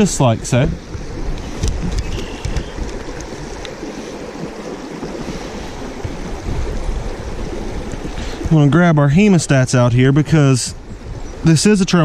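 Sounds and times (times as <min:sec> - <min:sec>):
creek water running over gravel: 0:00.0 - 0:12.0
wind buffeting microphone: 0:00.0 - 0:12.0.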